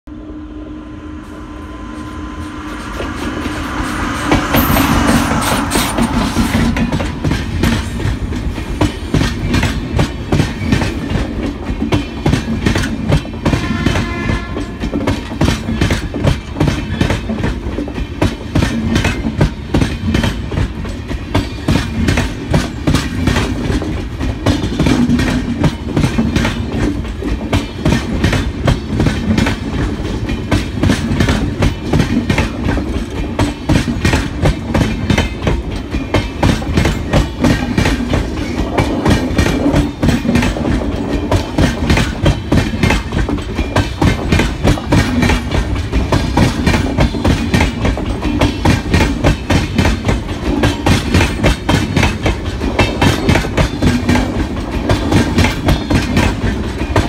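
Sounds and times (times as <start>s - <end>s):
electric locomotive approaching: 0.0s - 57.0s
wheels clacking over rail joints: 6.8s - 57.0s.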